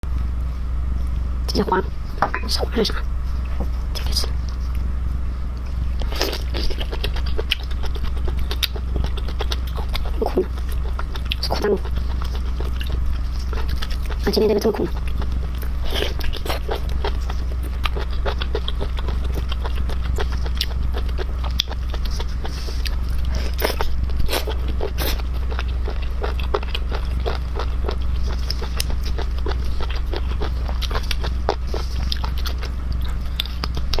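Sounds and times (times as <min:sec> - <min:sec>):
low hum: 0:00.0 - 0:34.0
chewing with wet crunches: 0:05.6 - 0:34.0.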